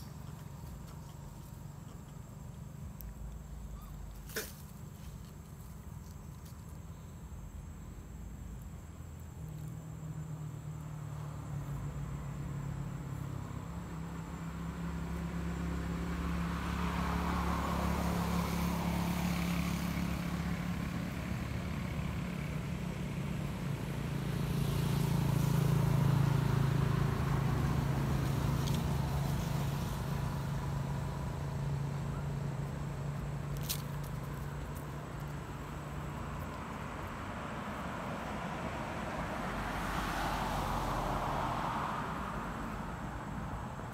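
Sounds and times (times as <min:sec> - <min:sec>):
traffic engines humming: 0:00.0 - 0:43.9.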